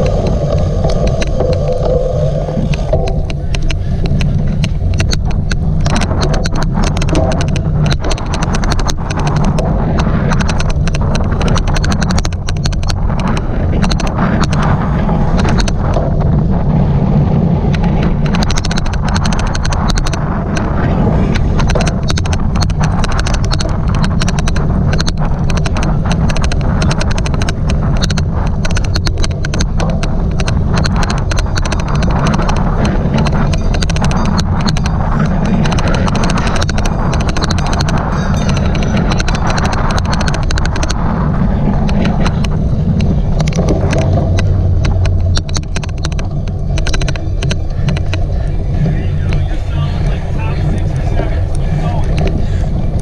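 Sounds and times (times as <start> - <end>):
bike rumbling over rough ground: 0.0 - 53.0
sharp irregular clicks: 0.0 - 53.0
wind buffeting: 0.0 - 53.0.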